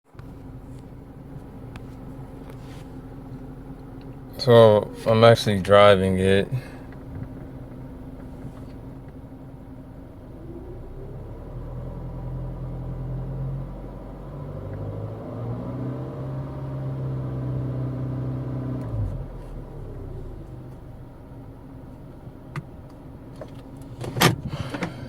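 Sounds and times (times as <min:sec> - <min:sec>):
car engine heard from cabin: 0:00.1 - 0:25.0.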